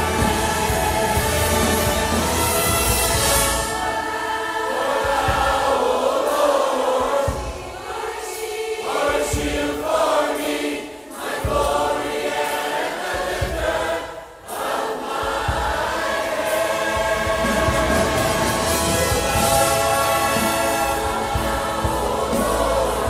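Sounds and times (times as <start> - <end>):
church choir singing gospel: 0.0 - 23.0.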